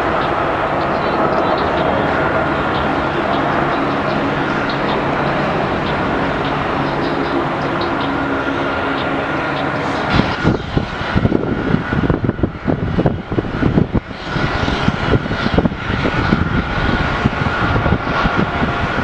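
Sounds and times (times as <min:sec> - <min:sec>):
jet engine high whine: 0:00.0 - 0:19.0
jet engines rumbling: 0:00.0 - 0:19.0.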